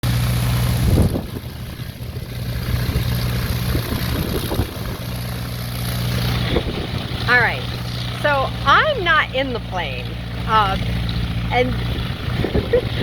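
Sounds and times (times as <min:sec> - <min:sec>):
small plane engine drone: 0:00.0 - 0:13.0.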